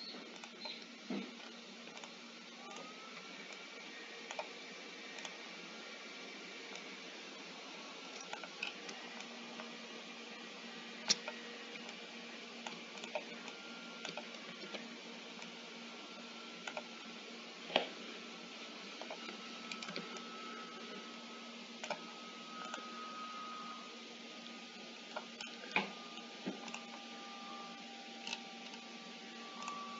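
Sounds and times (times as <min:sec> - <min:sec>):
low electrical hum: 0:00.0 - 0:29.9.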